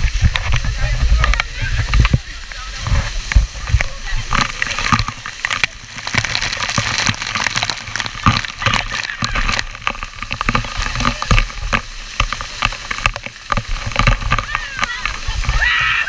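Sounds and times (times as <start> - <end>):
water drops striking camera: 0.0 - 15.7
waterfall rushing: 0.0 - 16.0.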